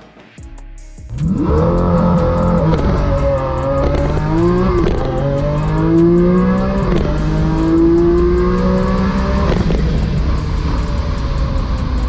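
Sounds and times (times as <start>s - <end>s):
car engine accelerating hard: 1.2s - 12.0s.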